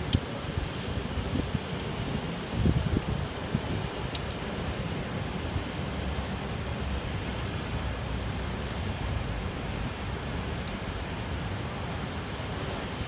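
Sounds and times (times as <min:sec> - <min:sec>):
heavy rain hissing: 0:00.0 - 0:13.0
raindrops tapping a ledge: 0:00.0 - 0:13.0.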